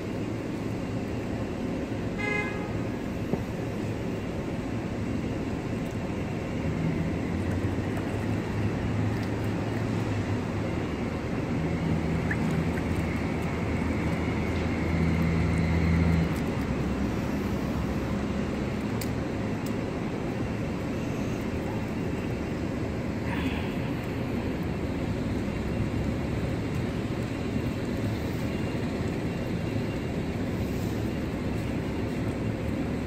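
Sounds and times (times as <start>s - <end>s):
cars passing: 0.0s - 33.0s
low engine hum: 0.0s - 33.0s.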